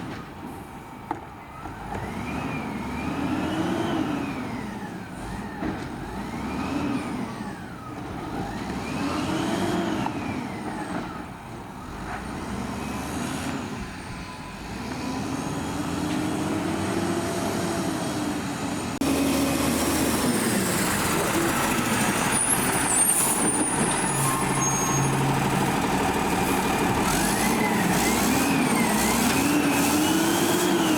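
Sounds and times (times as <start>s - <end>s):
truck diesel engine revving: 2.0s - 11.1s, 11.8s - 30.9s.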